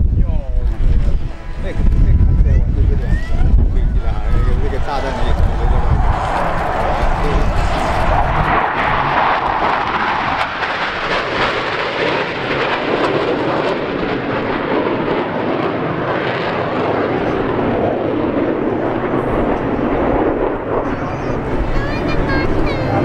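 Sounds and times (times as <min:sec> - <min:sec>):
jet engines flying past: 0:00.0 - 0:23.0.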